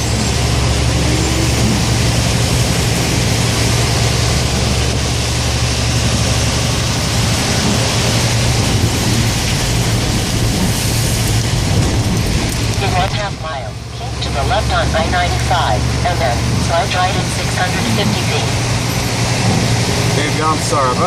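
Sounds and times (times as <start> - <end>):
low engine hum: 0.0 - 21.0
tyres hissing on wet pavement: 0.0 - 21.0.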